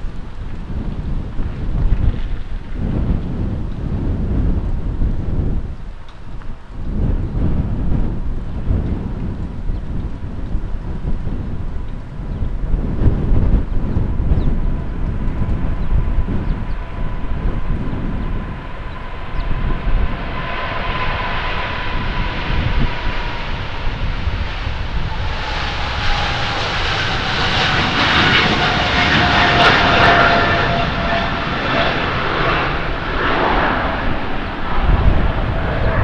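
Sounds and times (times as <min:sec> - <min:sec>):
high engine whine: 0:00.0 - 0:36.0
jet engines at takeoff: 0:00.0 - 0:36.0.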